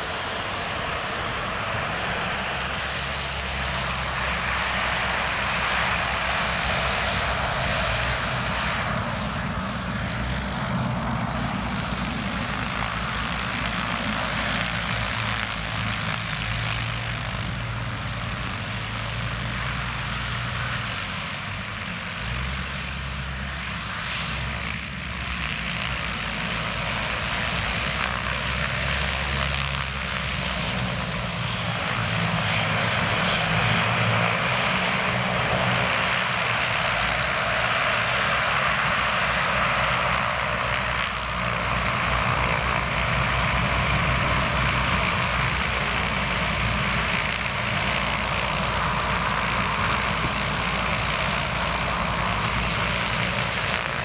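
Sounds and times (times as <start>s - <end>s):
turboprop engine running: 0.0s - 54.0s.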